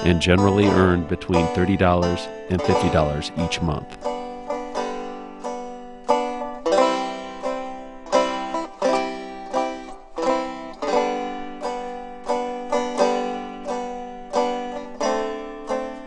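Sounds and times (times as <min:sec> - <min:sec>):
plucked string instrument tune: 0:00.0 - 0:16.0.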